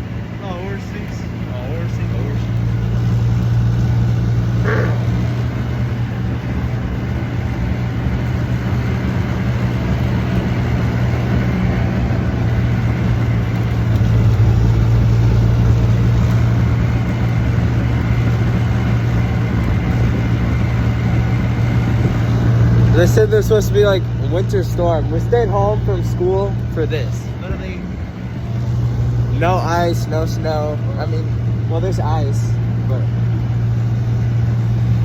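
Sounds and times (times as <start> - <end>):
road noise: 0.0 - 35.0
vehicle engine hum: 0.0 - 35.0.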